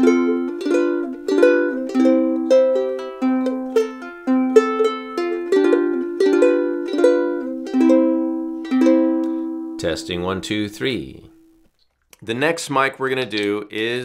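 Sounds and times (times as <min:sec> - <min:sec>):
ukulele chords: 0:00.0 - 0:11.5.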